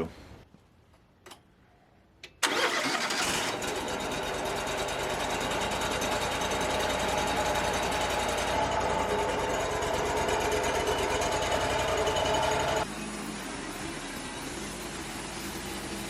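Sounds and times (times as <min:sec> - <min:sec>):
sawmill engine running: 0:02.4 - 0:16.0.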